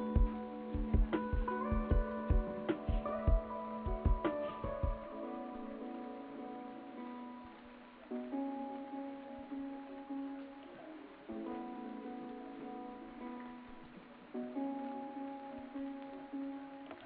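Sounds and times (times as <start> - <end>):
plucked-string instrumental music: 0.0 - 17.0.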